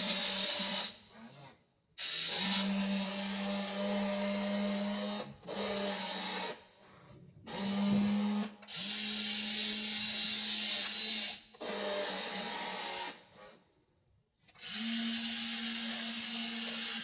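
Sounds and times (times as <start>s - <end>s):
small electric motors whining: 0.0s - 1.4s, 2.0s - 6.7s, 7.5s - 13.4s, 14.6s - 17.0s.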